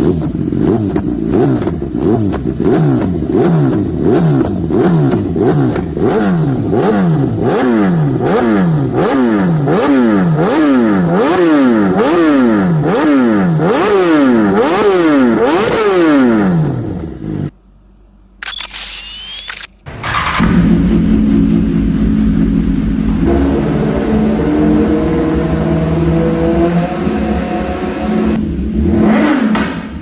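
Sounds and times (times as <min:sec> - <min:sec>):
motorcycle engine revving: 0:00.0 - 0:17.5, 0:19.9 - 0:30.0.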